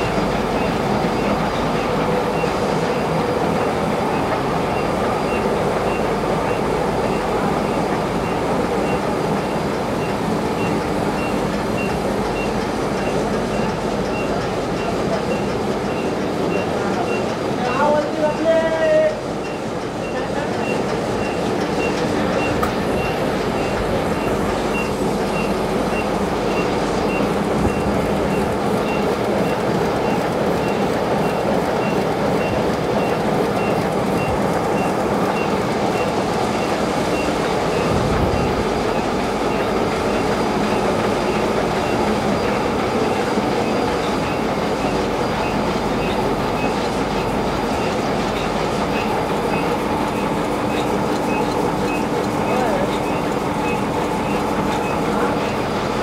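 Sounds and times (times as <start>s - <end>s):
printing press clatter: 0.0s - 56.0s.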